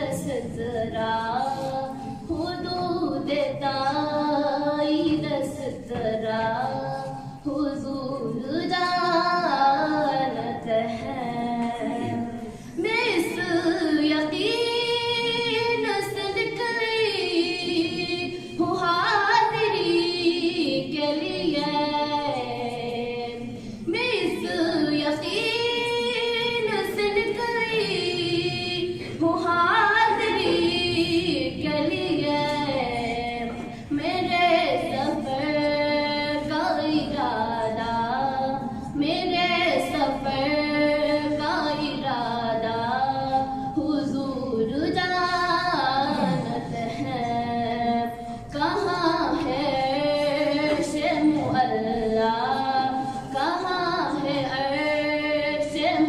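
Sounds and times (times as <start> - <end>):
girl singing unaccompanied: 0.0 - 56.0.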